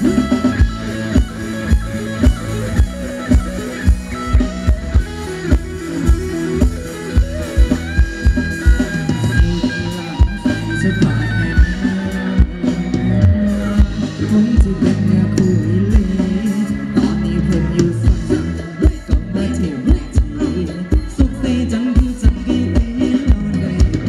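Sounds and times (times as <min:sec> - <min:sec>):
drum kit beat: 0:00.0 - 0:24.0
guitar melody: 0:00.0 - 0:24.0
live band dance music: 0:00.0 - 0:24.0.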